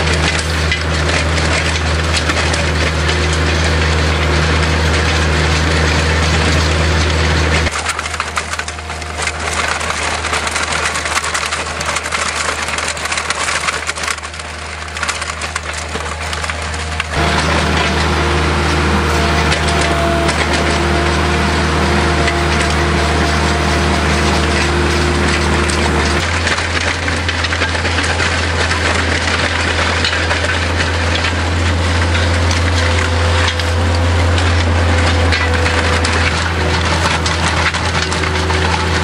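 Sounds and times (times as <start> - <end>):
chain trencher tearing through soil: 0.0 - 39.0
low machine hum: 0.0 - 39.0.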